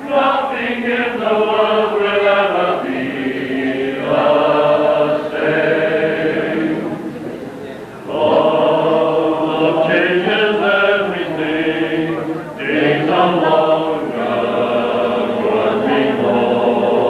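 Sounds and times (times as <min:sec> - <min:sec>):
male choir singing: 0:00.0 - 0:07.1, 0:08.0 - 0:17.0.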